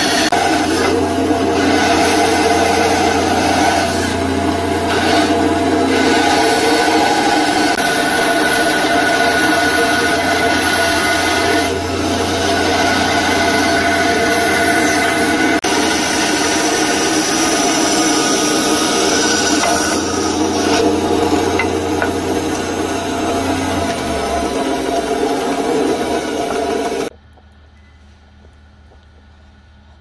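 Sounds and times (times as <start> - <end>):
bandsaw cutting wood: 0.0 - 27.1.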